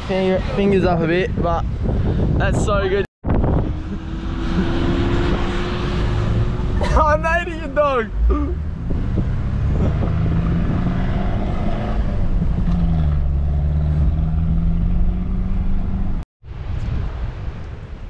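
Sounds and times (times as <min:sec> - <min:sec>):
wind noise on microphone: 0:00.0 - 0:06.8, 0:08.1 - 0:18.0
vehicle engine and tyre noise: 0:03.2 - 0:18.0.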